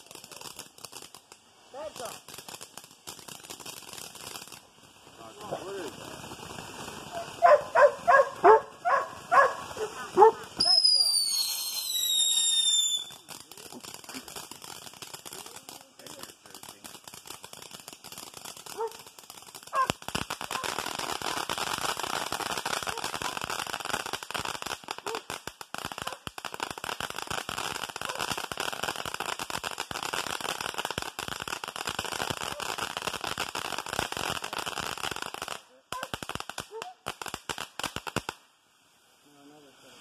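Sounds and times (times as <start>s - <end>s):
firework crackling: 0.0s - 40.0s.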